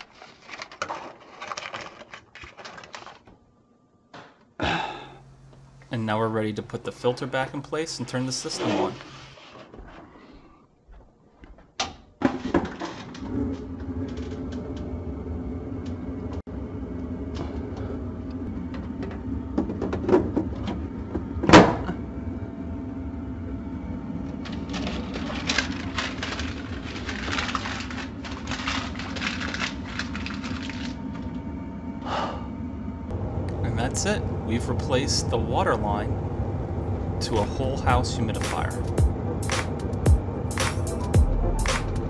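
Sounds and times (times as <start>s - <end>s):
furnace blower humming: 4.2s - 10.5s, 12.2s - 42.0s.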